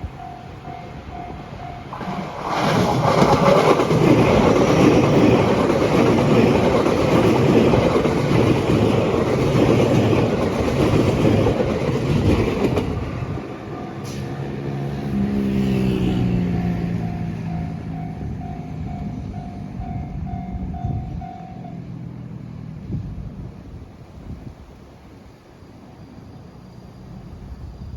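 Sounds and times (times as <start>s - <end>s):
electric train passing: 0.0s - 27.9s.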